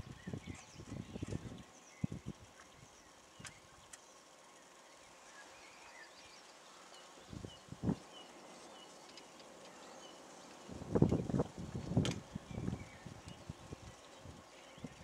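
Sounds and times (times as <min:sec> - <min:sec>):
outdoor field ambience: 0:00.0 - 0:15.0.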